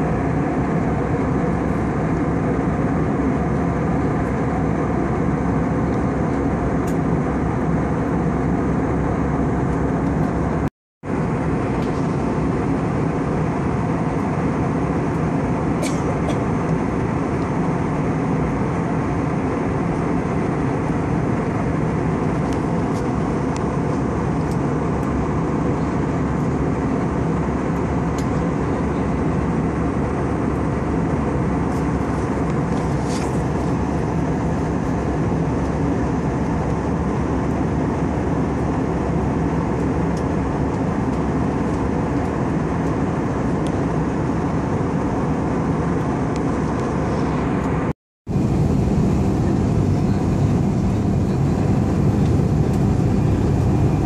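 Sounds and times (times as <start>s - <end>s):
air rushing along fuselage: 0.0s - 54.0s
jet engines droning: 0.0s - 54.0s.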